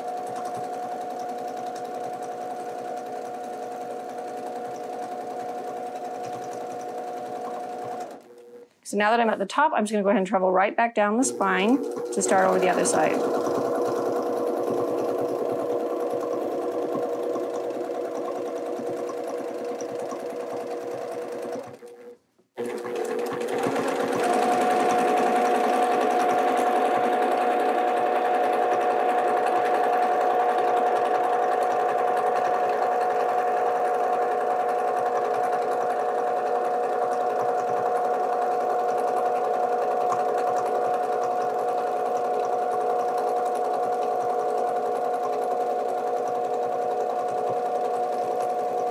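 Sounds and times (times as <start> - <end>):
sewing machine running: 0.0 - 8.7, 11.0 - 48.9.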